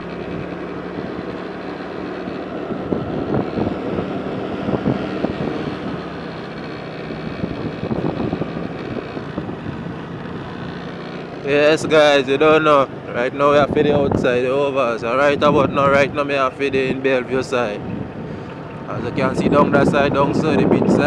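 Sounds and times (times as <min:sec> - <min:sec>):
vehicle engine driving: 0:00.0 - 0:21.0
wind buffeting microphone: 0:02.4 - 0:21.0.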